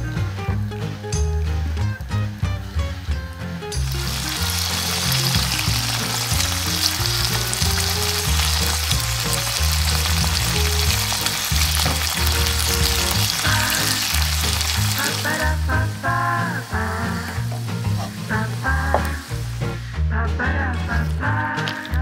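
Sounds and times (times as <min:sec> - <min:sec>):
background music with bass line: 0:00.0 - 0:22.0
bacon sizzling in a frying pan: 0:00.6 - 0:19.9.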